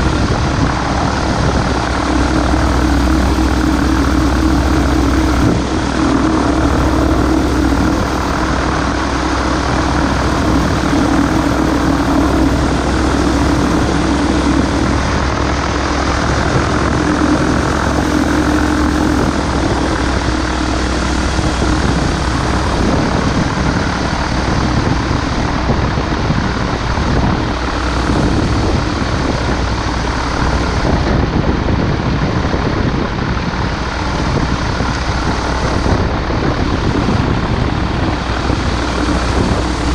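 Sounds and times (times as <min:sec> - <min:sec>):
constant rushing noise: 0:00.0 - 0:39.9
propeller engine humming: 0:00.0 - 0:39.9.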